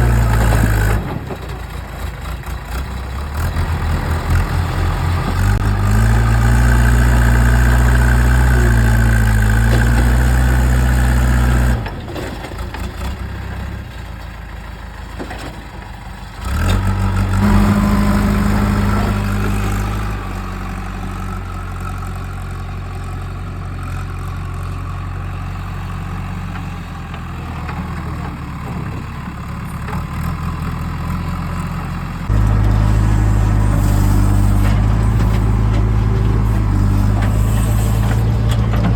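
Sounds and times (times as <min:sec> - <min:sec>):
diesel machinery engine running: 0:00.0 - 0:38.9.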